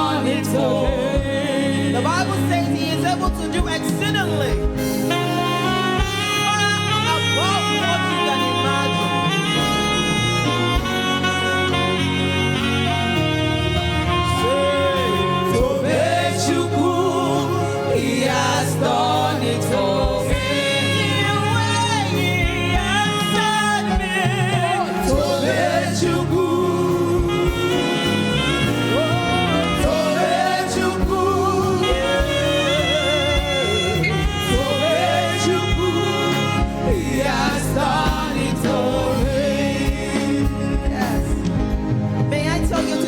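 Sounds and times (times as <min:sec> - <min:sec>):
instrumental backing music: 0:00.0 - 0:43.0
person singing with vibrato: 0:00.0 - 0:43.0.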